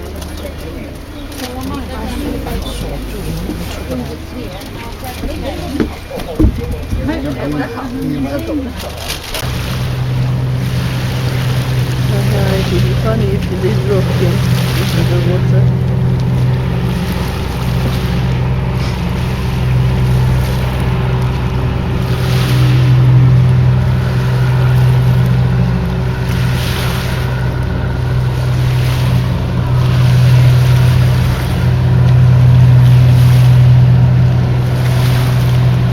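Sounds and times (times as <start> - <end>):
low engine drone: 0.0 - 35.9.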